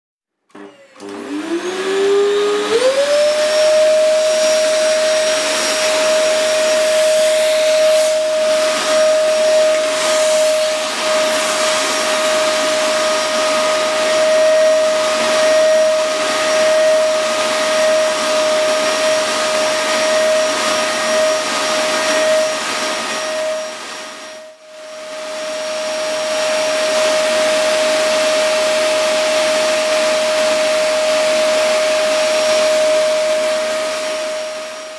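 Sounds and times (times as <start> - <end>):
vacuum cleaner motor whine: 0.5 - 34.9.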